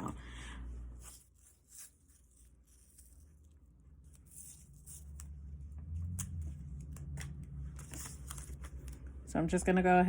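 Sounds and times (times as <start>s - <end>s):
tape rustling: 1.0s - 9.2s.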